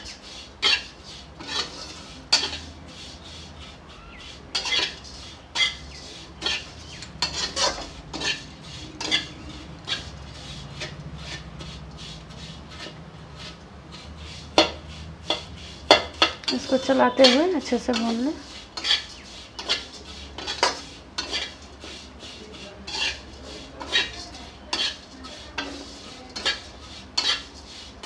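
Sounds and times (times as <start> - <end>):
metal spatula scraping a pan: 0.0 - 28.0.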